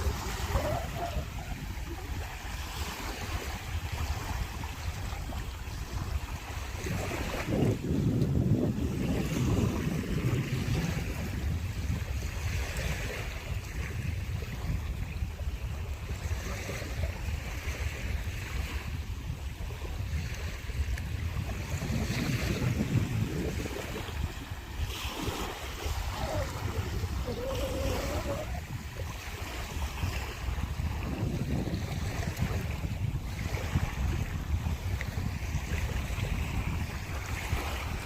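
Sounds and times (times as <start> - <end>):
sea waves washing: 0.0 - 38.0
wind buffeting microphone: 0.0 - 38.0.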